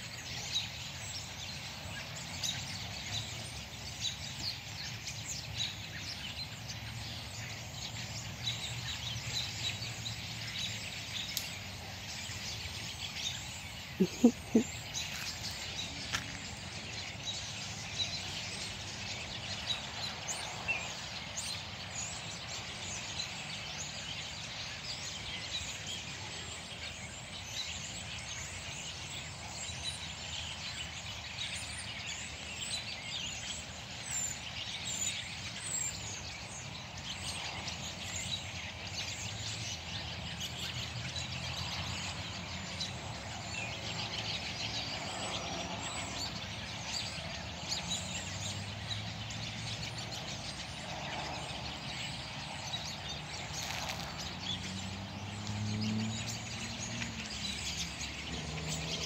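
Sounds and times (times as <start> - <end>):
flock of birds chirping: 0.0 - 59.0.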